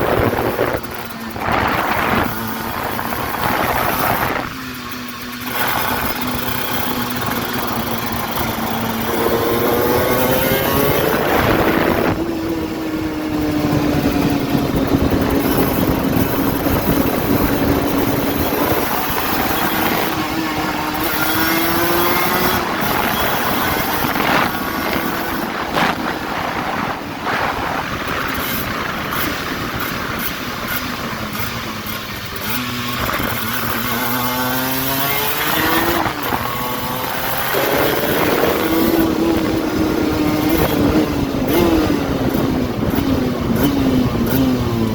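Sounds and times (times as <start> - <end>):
two-stroke engine revving: 0.0 - 44.9.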